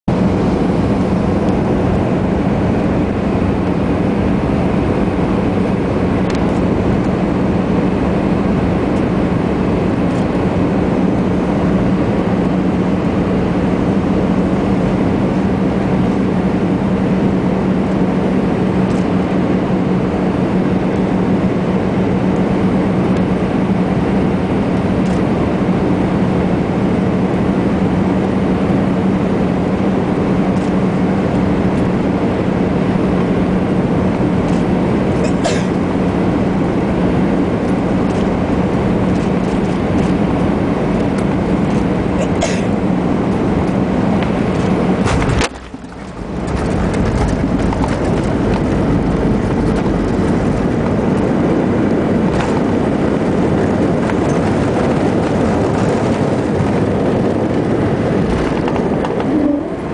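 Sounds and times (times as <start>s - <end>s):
constant low hum: 0.0s - 59.9s
engine and airflow rush: 0.0s - 59.9s.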